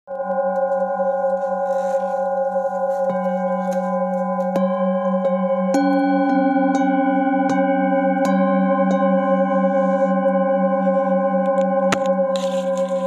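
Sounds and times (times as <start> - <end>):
singing bowls ringing: 0.1 - 13.0.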